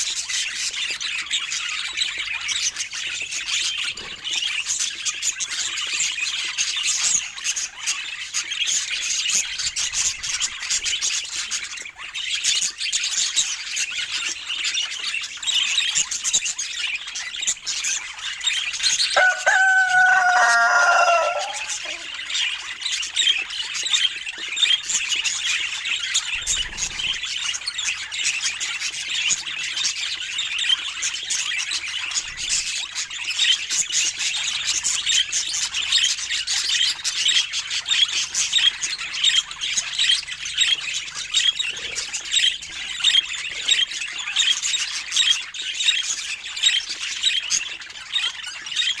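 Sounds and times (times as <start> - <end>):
budgerigars chattering: 0.0 - 49.0.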